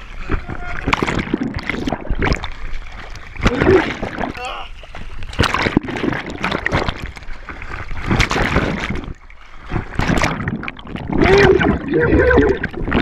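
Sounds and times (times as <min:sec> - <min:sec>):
water splashing and bubbling: 0:00.0 - 0:13.0.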